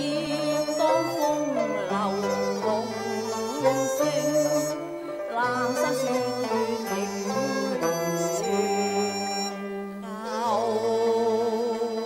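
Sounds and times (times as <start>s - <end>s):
traditional string and wind instruments: 0.0s - 12.0s.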